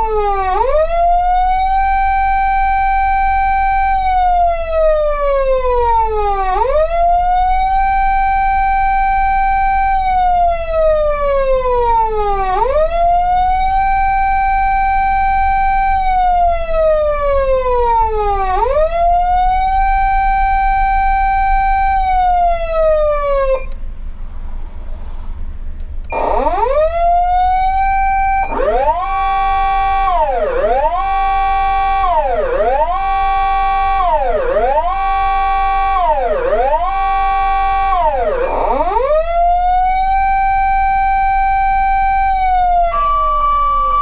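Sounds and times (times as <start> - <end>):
electronic siren wailing: 0.0 - 23.8, 26.0 - 44.0
steady low hum: 7.0 - 44.0.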